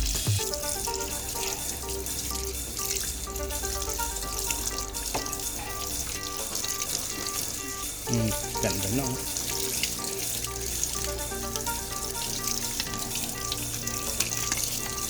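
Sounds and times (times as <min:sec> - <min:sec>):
background music of repeated notes: 0:00.0 - 0:15.0
water running and splashing: 0:00.0 - 0:15.0.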